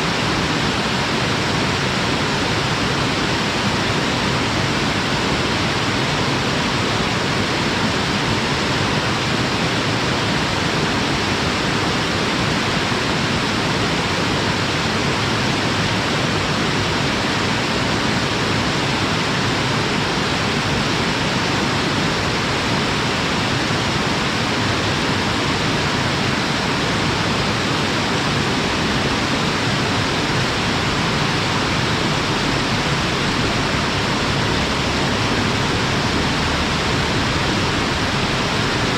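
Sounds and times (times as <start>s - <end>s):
waterfall rushing into pool: 0.0s - 38.9s.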